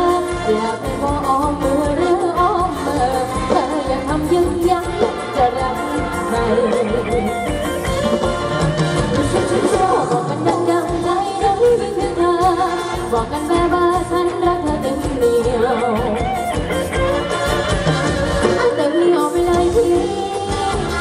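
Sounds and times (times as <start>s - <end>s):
live band dance music: 0.0s - 21.0s
person singing: 0.0s - 21.0s.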